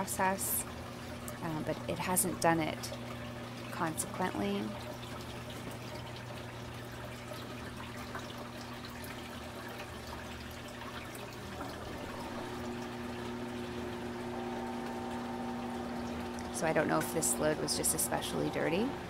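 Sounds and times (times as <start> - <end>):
drain pump humming: 0.0 - 19.0
water pouring into metal sink: 0.0 - 19.0.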